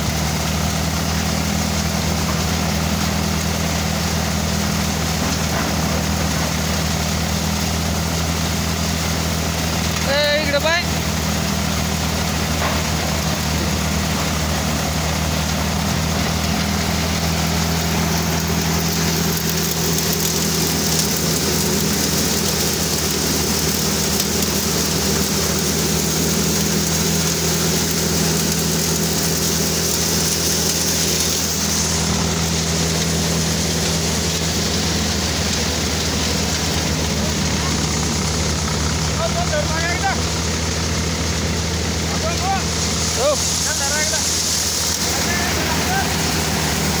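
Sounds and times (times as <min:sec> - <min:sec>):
grain pouring into a sack: 0:00.0 - 0:47.0
threshing machine hiss: 0:00.0 - 0:47.0
tractor engine hum: 0:00.0 - 0:47.0.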